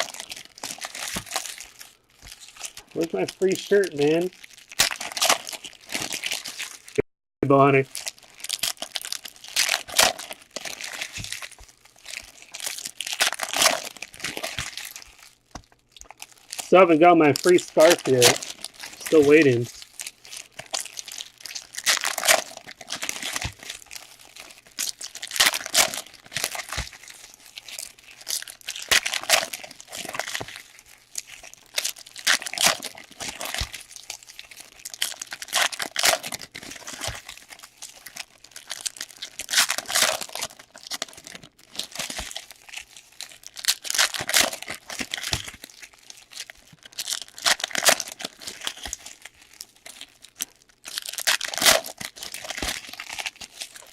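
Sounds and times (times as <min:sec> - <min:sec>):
plastic wrappers crinkling and tearing: 0:00.0 - 0:07.0, 0:07.6 - 0:53.9.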